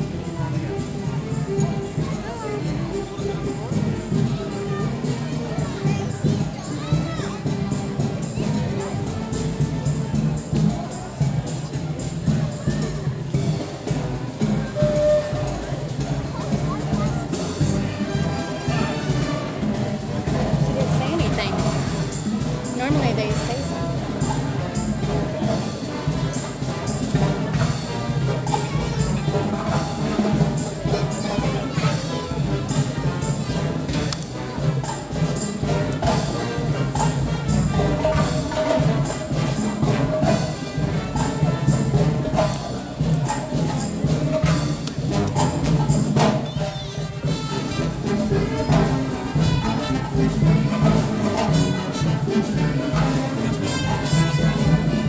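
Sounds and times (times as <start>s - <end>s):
band music with brass and drums: 0.0s - 55.0s.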